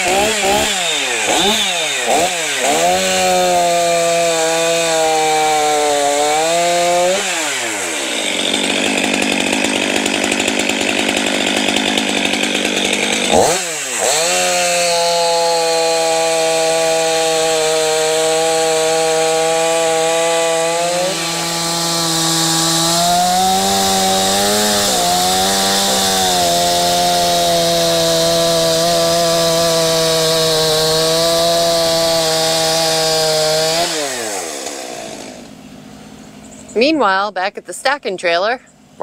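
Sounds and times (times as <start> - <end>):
chainsaw cutting log: 0.0 - 37.2.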